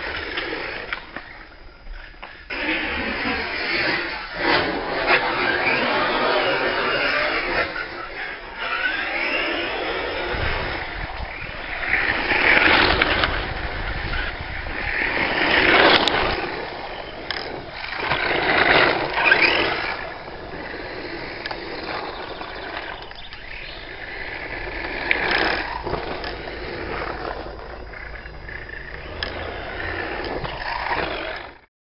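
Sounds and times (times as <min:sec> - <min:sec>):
electric rc buggy driving on gravel: 0:00.0 - 0:31.7.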